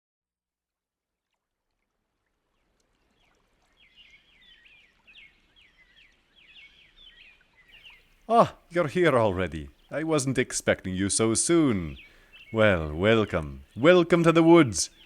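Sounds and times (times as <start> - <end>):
faint birdsong: 2.2 - 15.0.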